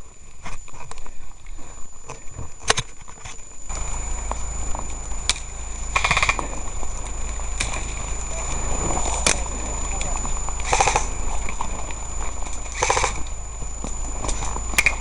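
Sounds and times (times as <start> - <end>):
low rumble: 0.0 - 15.0
rustling through undergrowth: 0.0 - 15.0
sharp cracks: 2.6 - 15.0.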